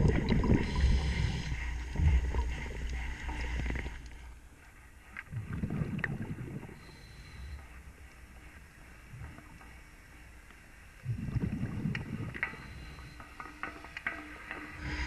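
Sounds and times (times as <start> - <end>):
low underwater rumble: 0.0 - 15.0.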